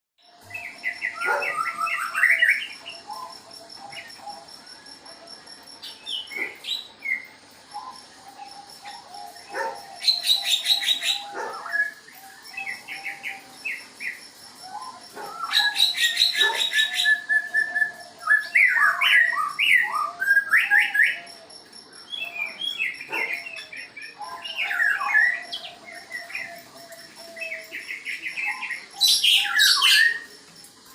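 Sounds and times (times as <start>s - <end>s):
caged birds chirping and singing: 0.2s - 30.9s
rattling bird trills: 0.4s - 30.9s.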